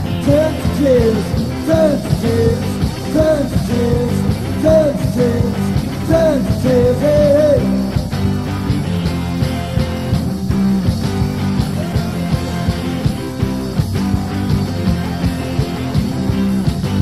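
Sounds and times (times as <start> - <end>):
punk rock band playing: 0.0 - 17.0.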